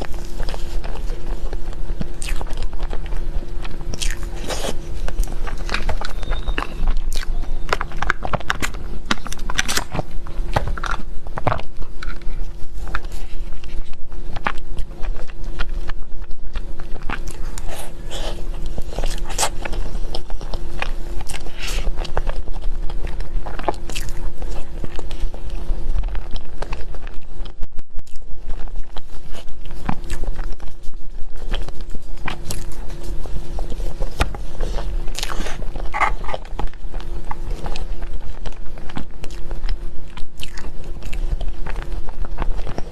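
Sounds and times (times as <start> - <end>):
low hum: 0.0 - 42.9
person biting and chewing: 0.0 - 42.9.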